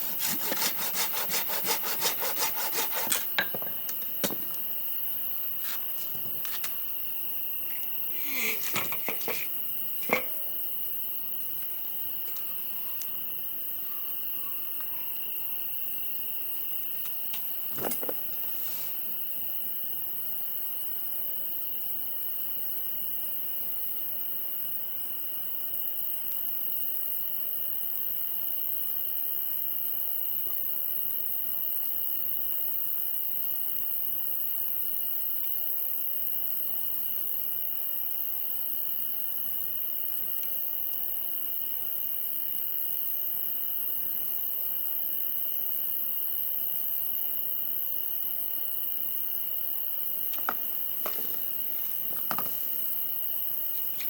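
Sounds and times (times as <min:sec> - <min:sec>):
crickets trilling in chorus: 0:00.0 - 0:54.0
insect chirp: 0:00.0 - 0:54.0.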